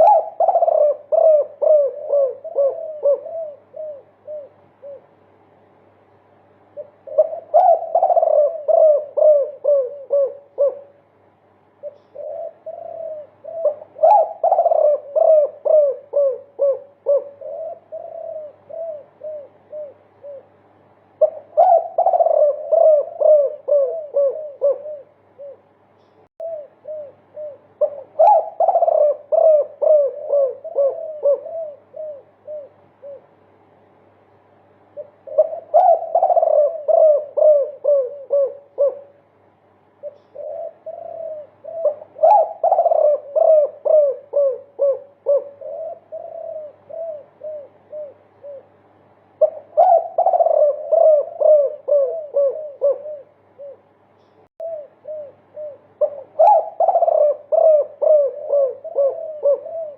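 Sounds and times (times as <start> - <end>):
dove cooing: 0.0 - 5.4, 6.6 - 33.8, 34.7 - 59.9.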